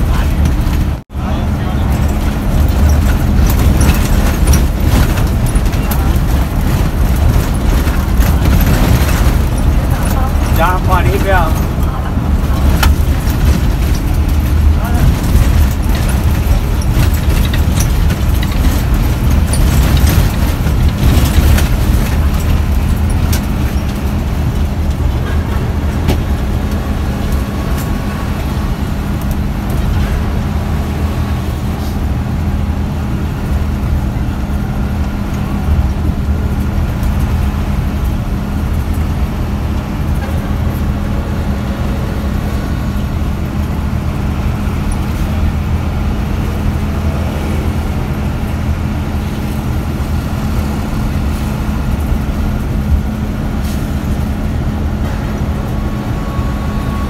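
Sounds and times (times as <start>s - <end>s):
coach engine droning: 0.0s - 57.0s
tyre and road noise: 0.0s - 57.0s.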